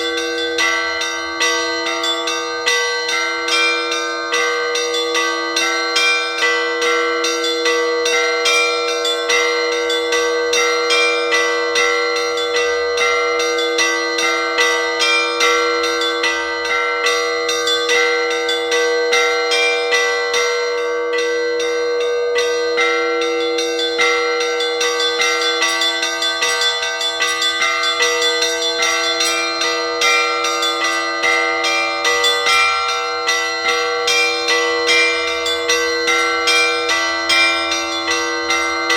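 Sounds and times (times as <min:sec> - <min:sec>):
large bell ringing: 0:00.0 - 0:38.9
small church bells ringing: 0:00.0 - 0:38.9.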